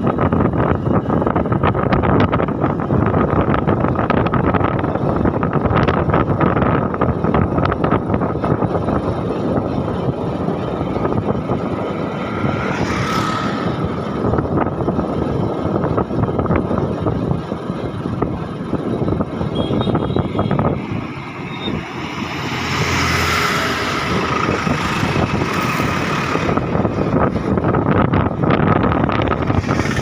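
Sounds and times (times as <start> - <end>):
vehicle running noise: 0.0 - 30.0
wind rushing: 0.0 - 30.0.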